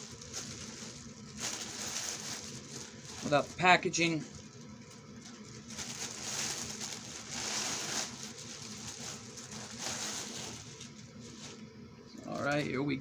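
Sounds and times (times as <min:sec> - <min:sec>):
packaging rustling and crinkling: 0:00.0 - 0:12.8.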